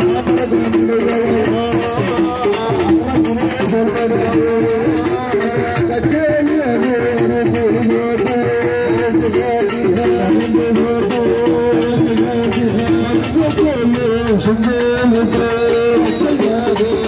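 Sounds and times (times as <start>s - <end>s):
rapid steady drumming: 0.0s - 17.0s.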